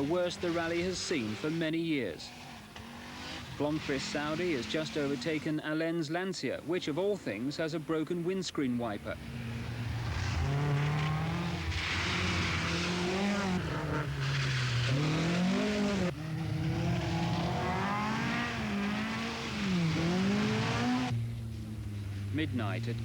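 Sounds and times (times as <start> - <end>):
rally car engines revving: 0.0 - 5.9, 8.8 - 23.0.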